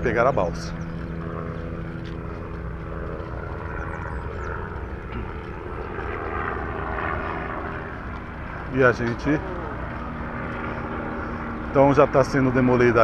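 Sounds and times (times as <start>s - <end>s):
bicycle rolling on asphalt: 0.0s - 13.0s
low engine hum: 0.0s - 13.0s.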